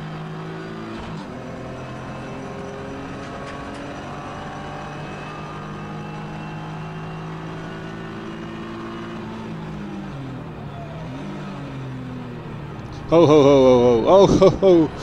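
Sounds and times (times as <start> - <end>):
race car engine under full throttle: 0.0 - 15.0.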